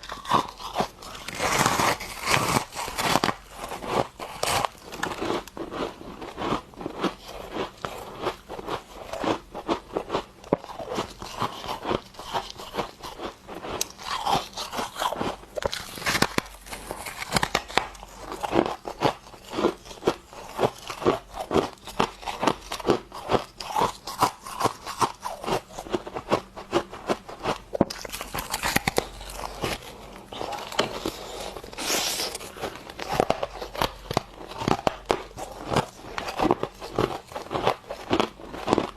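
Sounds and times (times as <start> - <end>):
frost being bitten and chewed: 0.0 - 38.9.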